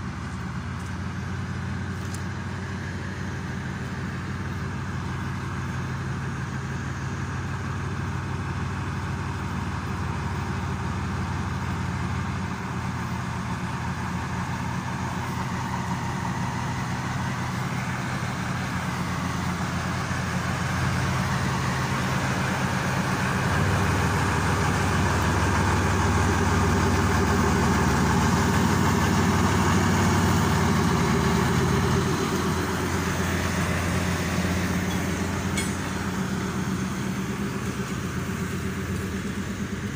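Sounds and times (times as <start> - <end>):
diesel locomotive engine humming: 0.0 - 39.9.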